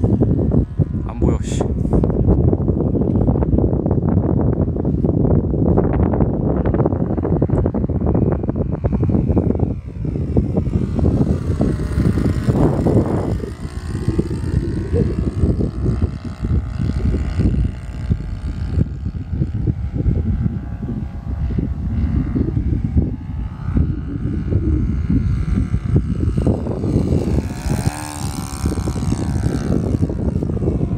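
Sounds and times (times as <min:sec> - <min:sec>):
propeller plane flying past: 0:00.0 - 0:30.9
wind buffeting microphone: 0:00.0 - 0:30.9.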